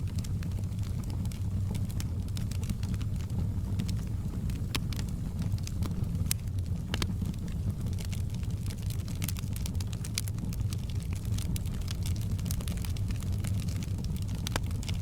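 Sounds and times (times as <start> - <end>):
fire roaring in fireplace: 0.0 - 15.0
wood crackling and popping: 0.0 - 15.0.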